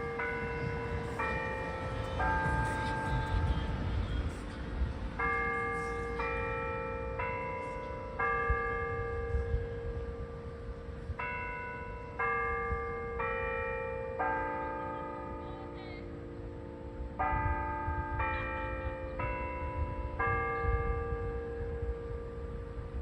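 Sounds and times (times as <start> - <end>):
church bells chiming a tune: 0.0 - 23.0.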